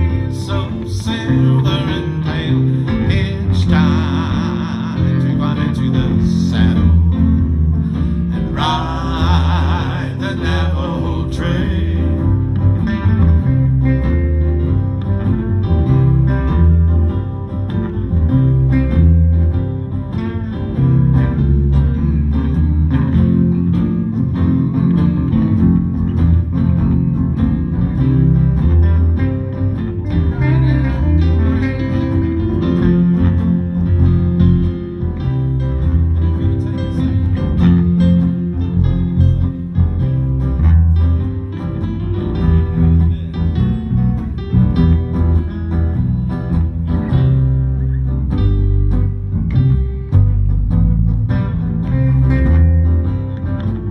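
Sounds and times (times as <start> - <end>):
country-western guitars and bass: 0.0 - 53.9.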